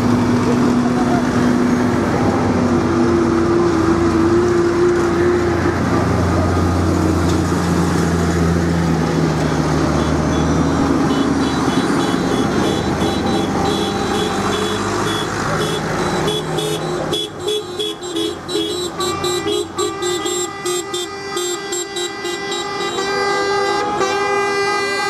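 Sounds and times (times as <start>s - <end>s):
tractor diesel engines droning: 0.0s - 25.0s.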